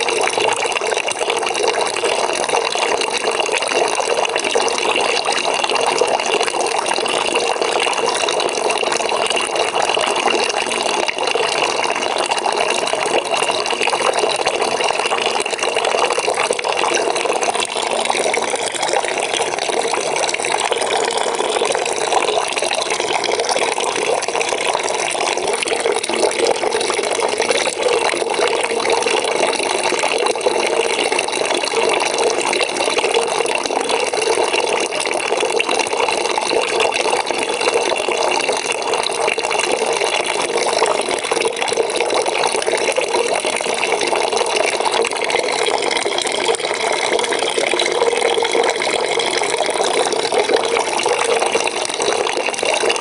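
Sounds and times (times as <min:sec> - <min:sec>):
water pouring into a bucket: 0:00.0 - 0:53.0.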